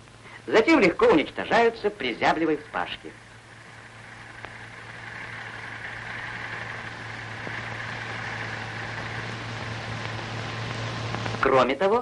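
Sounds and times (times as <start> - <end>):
tractor machine noise: 0.0 - 11.7.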